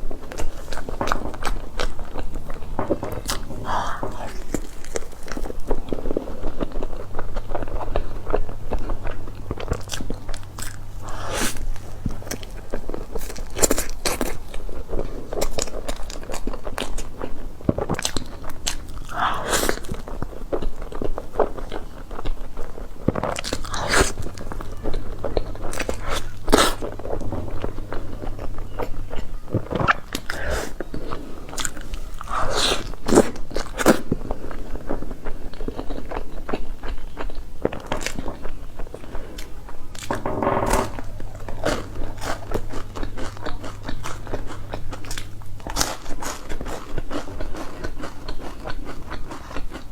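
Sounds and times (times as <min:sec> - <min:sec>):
chewing with wet mouth clicks: 0:00.1 - 0:40.2, 0:41.2 - 0:49.9.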